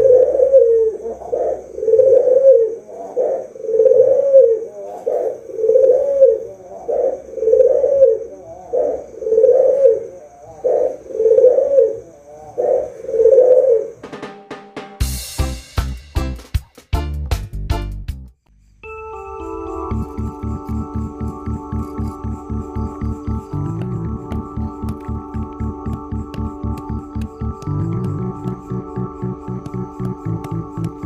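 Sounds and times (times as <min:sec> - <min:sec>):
dove cooing: 0:00.0 - 0:14.0, 0:20.0 - 0:31.0.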